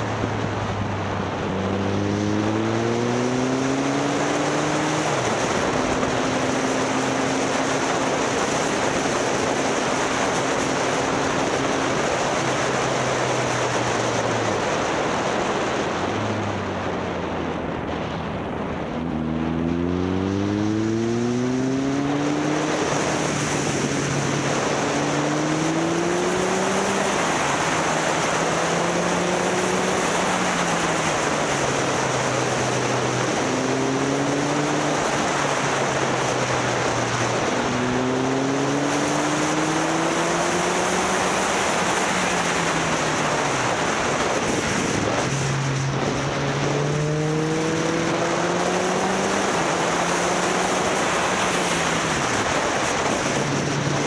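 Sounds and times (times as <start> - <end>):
motorcycle engine revving: 0.0 - 14.9, 18.6 - 54.0
wind on microphone: 0.0 - 54.0.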